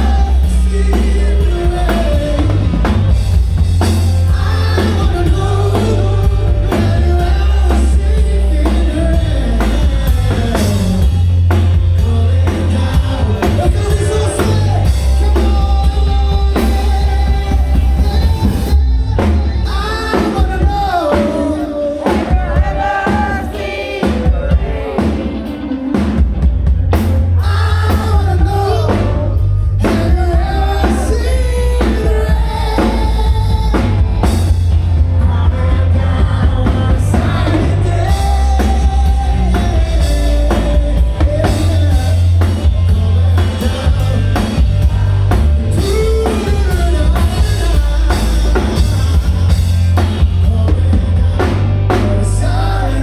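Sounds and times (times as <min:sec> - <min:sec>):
man singing: 0:00.0 - 0:25.5, 0:26.9 - 0:53.0
drum kit and bass: 0:00.0 - 0:53.0.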